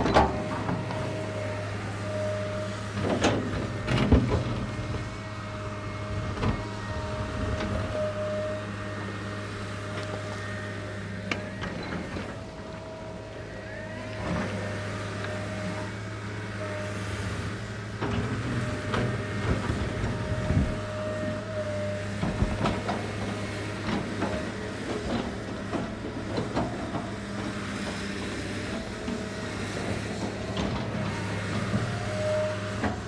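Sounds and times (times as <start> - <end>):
backhoe engine running: 0.0 - 33.0.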